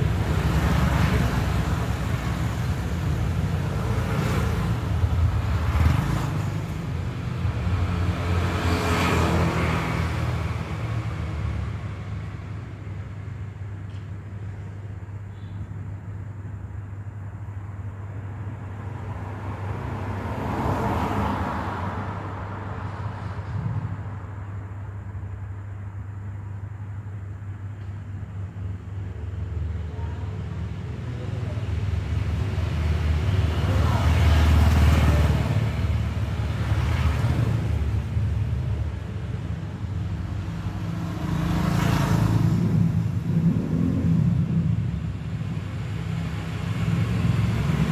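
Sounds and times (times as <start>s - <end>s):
traffic rumble: 0.0s - 47.9s
vehicles passing by: 0.0s - 47.9s.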